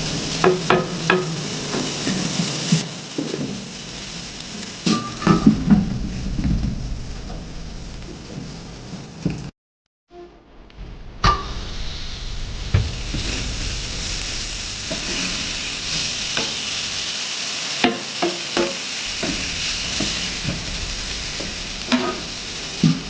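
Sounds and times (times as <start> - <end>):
food sizzling on a griddle: 0.0 - 8.4, 11.2 - 23.0.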